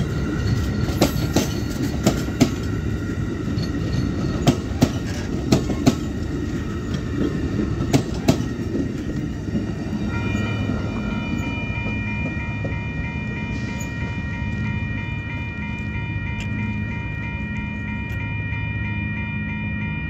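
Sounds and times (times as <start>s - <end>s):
train wheels clicking over rail joints: 0.0s - 16.8s
crossing warning bell ringing: 0.0s - 20.0s
train rumbling past: 0.0s - 20.0s.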